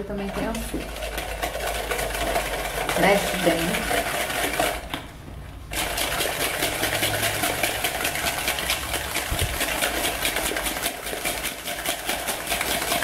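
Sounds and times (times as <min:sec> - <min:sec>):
whisking liquid in plastic bowl: 0:00.0 - 0:13.0.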